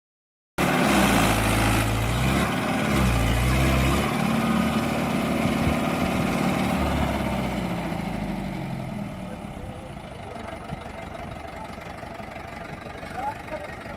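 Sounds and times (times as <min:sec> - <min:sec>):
tractor diesel engine: 0:00.6 - 0:13.9.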